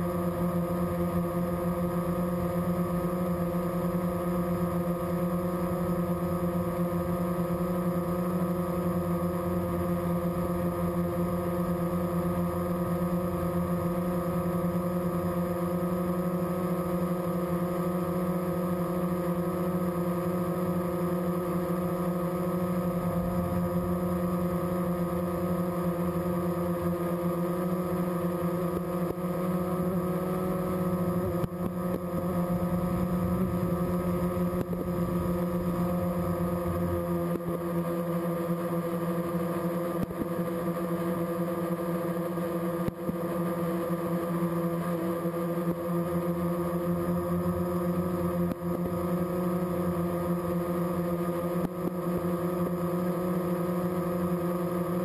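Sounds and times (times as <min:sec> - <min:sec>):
electric motors and propellers whining: 0:00.0 - 0:55.0.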